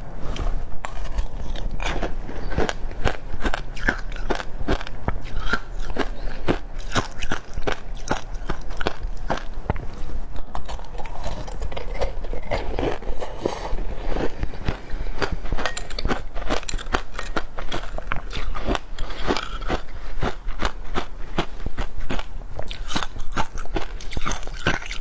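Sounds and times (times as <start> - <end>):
crunching and chewing shaved ice: 0.0 - 25.0.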